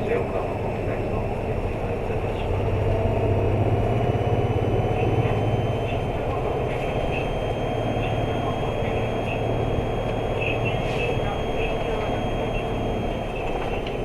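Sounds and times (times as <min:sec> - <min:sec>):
diesel bus engine droning: 0:00.0 - 0:14.0.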